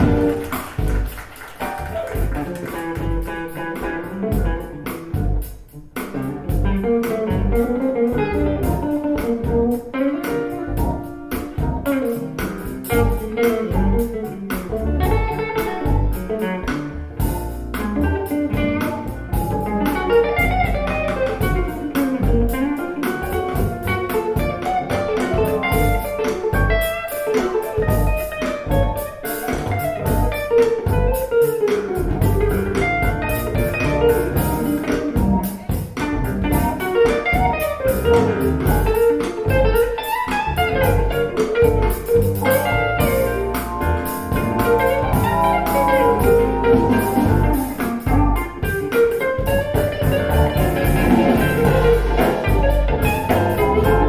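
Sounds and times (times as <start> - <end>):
blues music with guitar and bass: 0.0 - 54.0.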